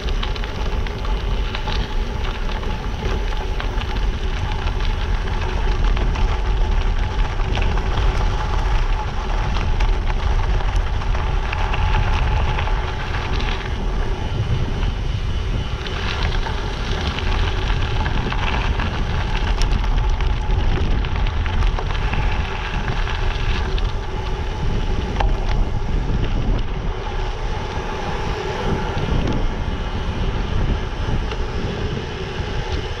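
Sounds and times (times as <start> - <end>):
bike tyres rumbling on gravel: 0.0 - 33.0
wind buffeting microphone: 0.0 - 33.0.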